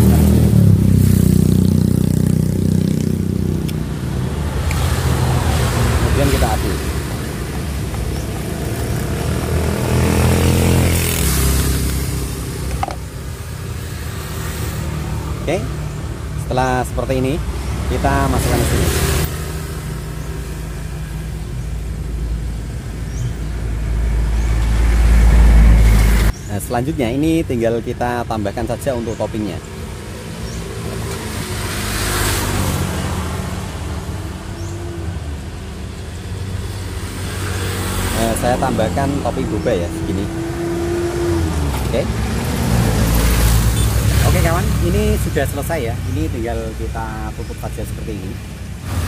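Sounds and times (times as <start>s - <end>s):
vehicle engine passing: 0.0s - 23.1s, 29.4s - 46.8s.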